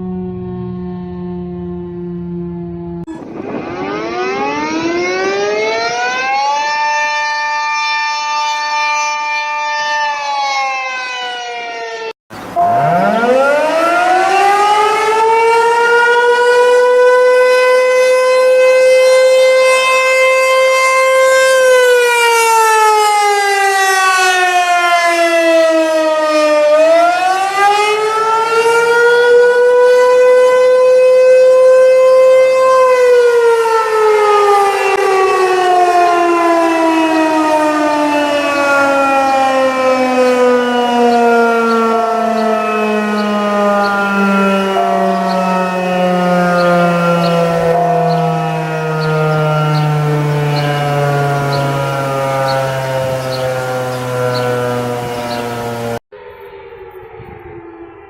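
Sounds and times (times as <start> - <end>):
warning siren wailing: 0.0 - 58.0.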